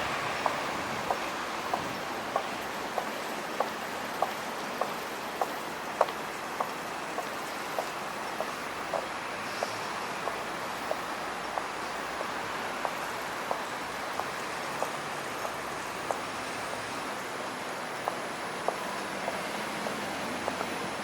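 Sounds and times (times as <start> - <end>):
traffic hum and hiss: 0.0 - 21.0.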